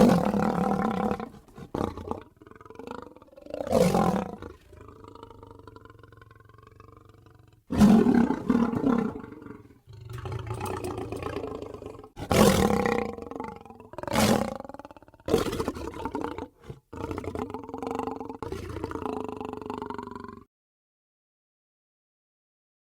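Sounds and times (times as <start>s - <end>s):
lion grunting calls: 0.0s - 20.3s
lion roaring: 0.0s - 20.4s.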